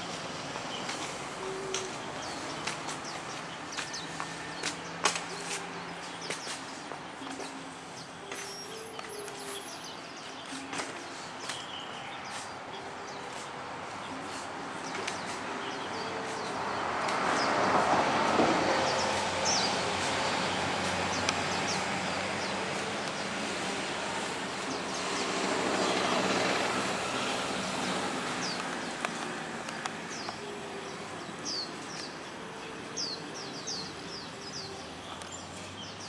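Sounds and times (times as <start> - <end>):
passing traffic rushing: 0.0 - 36.0.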